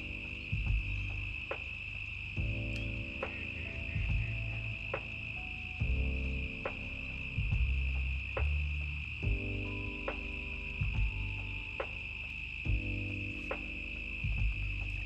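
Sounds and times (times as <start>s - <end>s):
crickets chirping: 0.0s - 15.0s
soft music of low chords: 0.0s - 15.0s.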